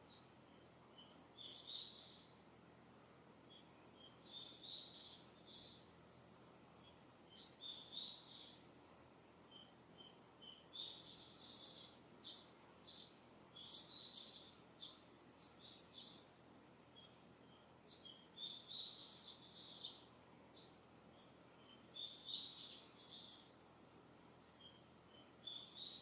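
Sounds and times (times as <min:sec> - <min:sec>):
birds chirping: 0:00.0 - 0:02.4, 0:03.4 - 0:05.9, 0:06.7 - 0:08.7, 0:09.5 - 0:16.3, 0:16.9 - 0:23.6, 0:24.4 - 0:26.0.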